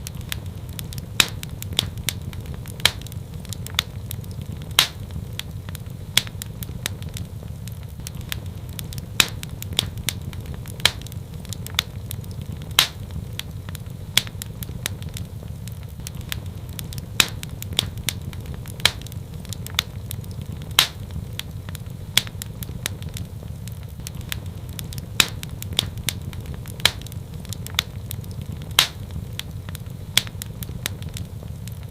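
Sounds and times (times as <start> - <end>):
fire crackling pops and snaps: 0.0 - 31.9
low rumble of flames: 0.0 - 31.9.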